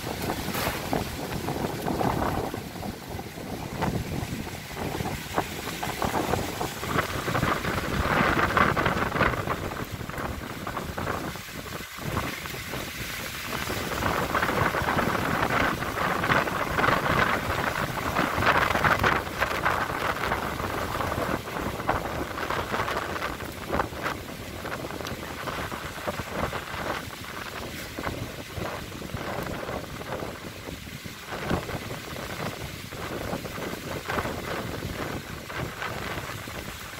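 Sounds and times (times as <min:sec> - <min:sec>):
wind buffeting microphone: 0:00.0 - 0:36.9
wind thrashing through trees: 0:00.0 - 0:36.9.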